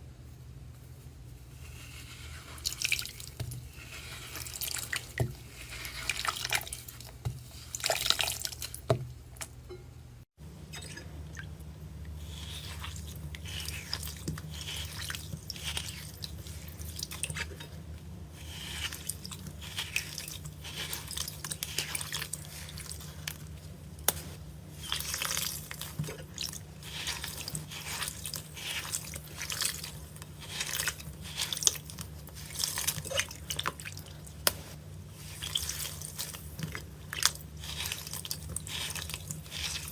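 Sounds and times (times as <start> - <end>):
low steady hum: 0.0 - 39.9
wet crackling and squishing: 1.9 - 9.6, 10.7 - 39.9.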